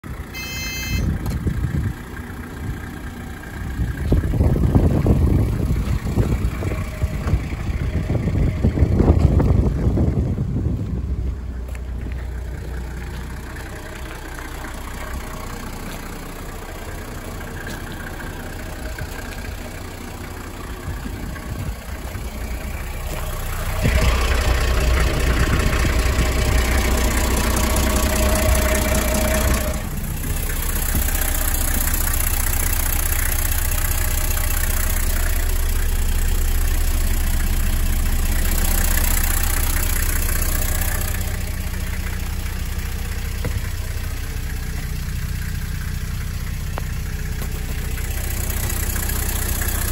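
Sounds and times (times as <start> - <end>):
diesel engine idling: 0.0 - 49.9.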